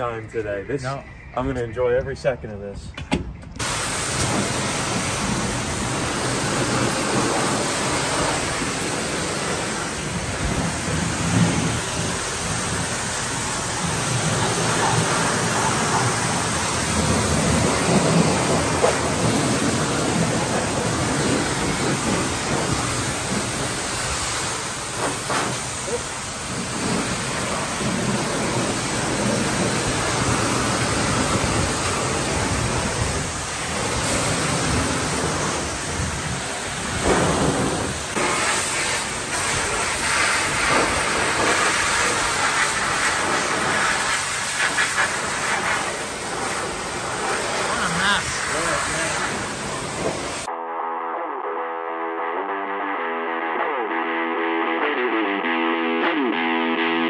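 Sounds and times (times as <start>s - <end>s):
pressure washer spraying water: 3.6s - 50.5s.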